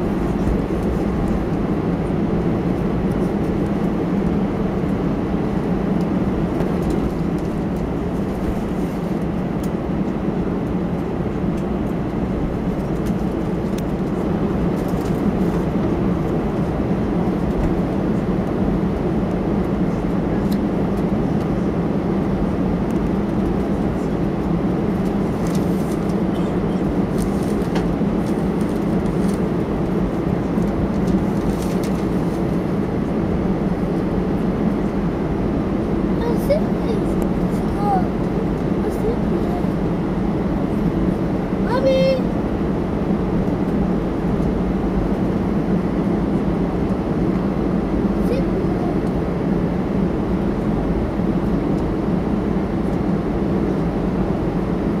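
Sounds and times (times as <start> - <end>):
aircraft engine hum in cabin: 0.0 - 55.0.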